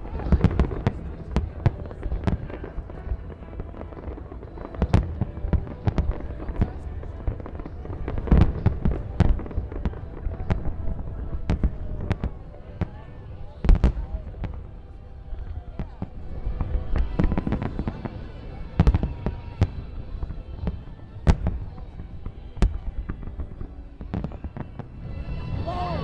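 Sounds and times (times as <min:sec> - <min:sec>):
firework crackles: 0:00.0 - 0:26.0
fireworks bursting: 0:00.0 - 0:26.0.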